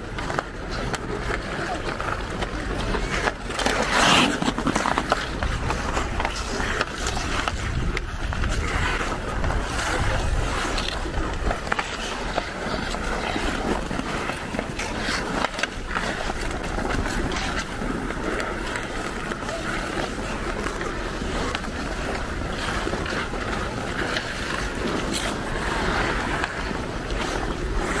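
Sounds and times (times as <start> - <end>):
hockey sticks clacking on ice: 0.0 - 28.0
ice skate blades scraping: 0.0 - 28.0.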